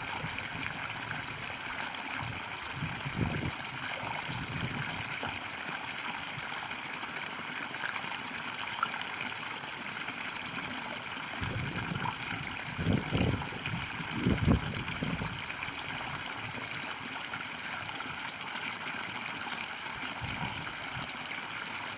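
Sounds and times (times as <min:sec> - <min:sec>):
water trickling and splashing: 0:00.0 - 0:21.9.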